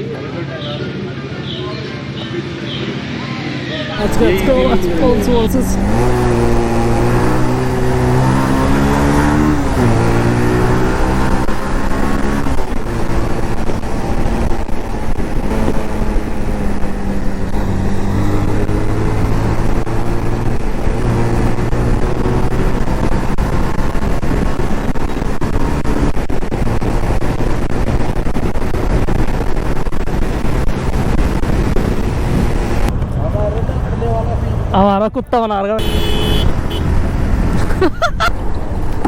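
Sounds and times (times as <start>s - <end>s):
motorcycle engine running: 4.0s - 34.8s, 35.8s - 37.6s
wind noise: 4.0s - 39.0s.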